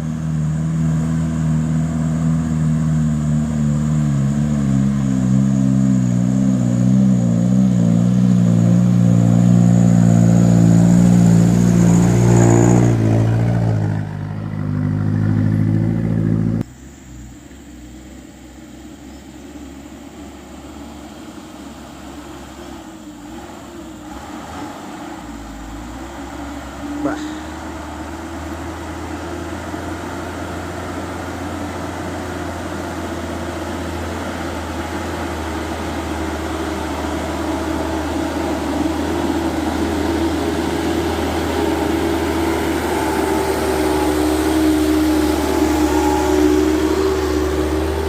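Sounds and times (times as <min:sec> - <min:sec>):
diesel truck engine labouring uphill: 0:00.0 - 0:48.0.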